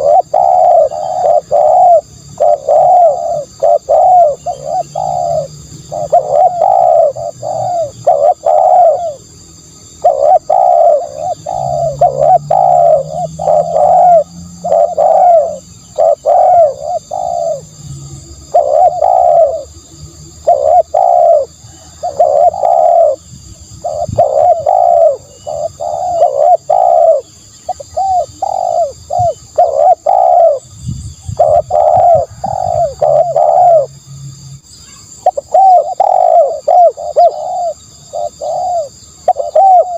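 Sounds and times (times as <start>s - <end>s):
dove cooing: 0.0s - 34.0s, 34.9s - 39.9s.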